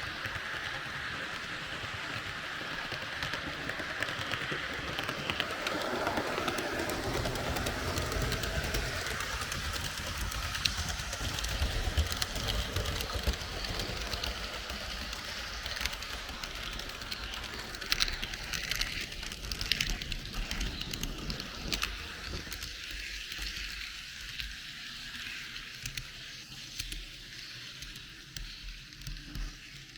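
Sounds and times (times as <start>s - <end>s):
model train wheels rattling on rails: 0.0s - 29.9s.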